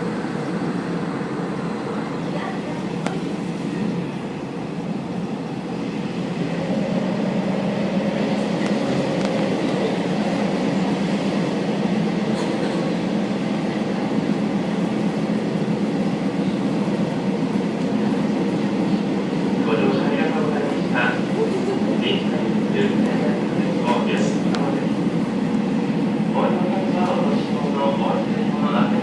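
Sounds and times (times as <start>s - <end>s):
diesel railcar running on track: 0.0s - 29.0s.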